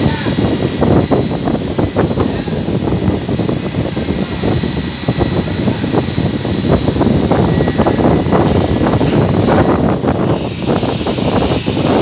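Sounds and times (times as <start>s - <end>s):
coolant spraying rush: 0.0s - 12.0s
machine high whining tones: 0.0s - 12.0s.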